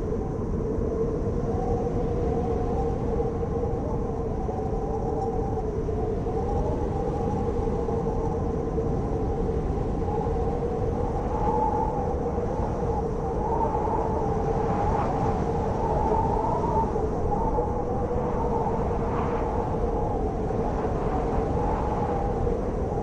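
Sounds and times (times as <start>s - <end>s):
blizzard wind howling: 0.0s - 23.0s
wind whistling: 0.0s - 23.0s.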